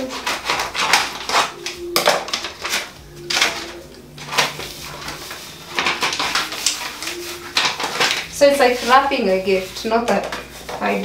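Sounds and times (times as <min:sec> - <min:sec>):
contact paper crinkling: 0:00.0 - 0:11.0.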